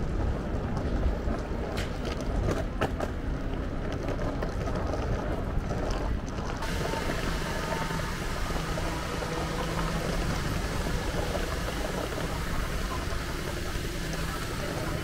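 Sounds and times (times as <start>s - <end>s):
continuous street hiss: 0.0s - 15.0s
low traffic hum: 0.0s - 15.0s.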